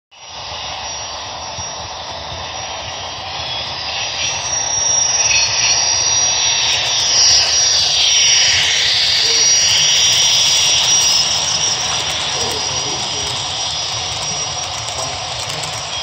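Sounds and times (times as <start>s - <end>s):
model locomotive turbine whine: 0.1s - 16.0s.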